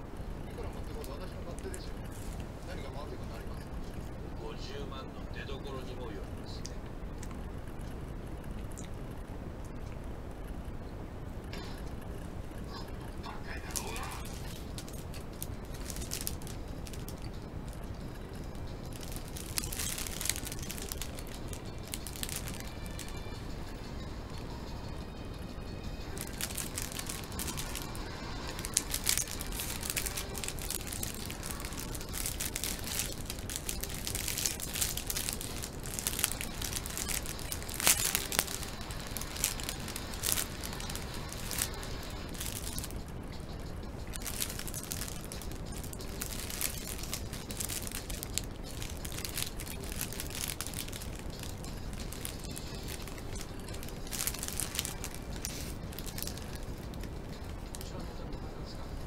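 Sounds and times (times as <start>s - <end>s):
plastic bag crinkling: 0.0s - 4.2s, 11.5s - 24.0s, 25.7s - 58.0s.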